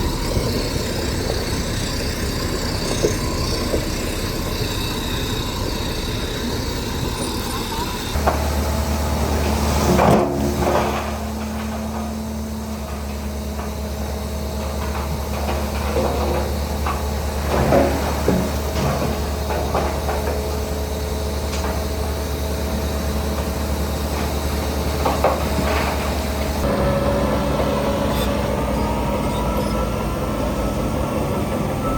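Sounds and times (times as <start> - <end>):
diesel machinery engine: 0.0 - 31.9.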